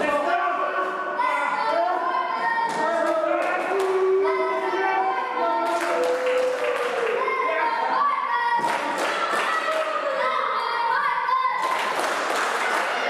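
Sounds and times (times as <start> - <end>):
children's voices: 0.0 - 13.0.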